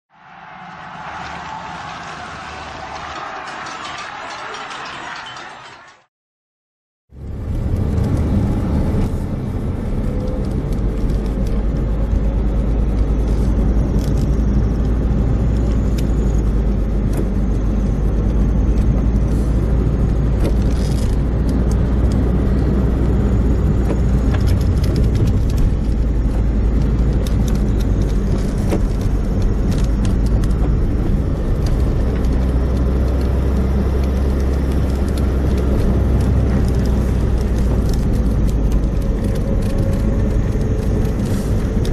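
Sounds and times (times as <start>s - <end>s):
car engine and tyre rumble: 0.1s - 4.2s, 7.1s - 41.9s.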